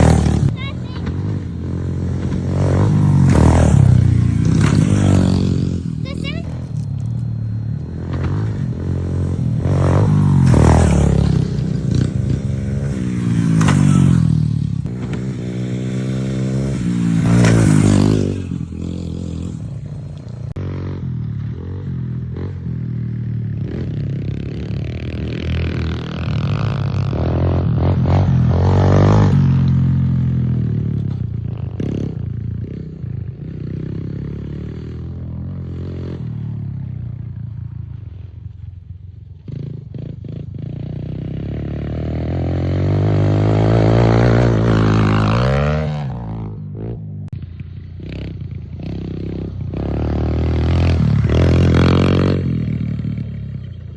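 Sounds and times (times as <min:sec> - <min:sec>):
dirt bike engine revving: 0:00.0 - 0:36.6, 0:39.5 - 0:53.8.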